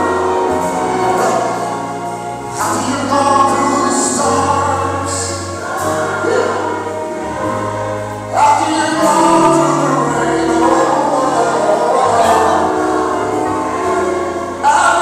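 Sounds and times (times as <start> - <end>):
gospel choir singing: 0.0 - 15.0
held bass notes: 0.0 - 15.0.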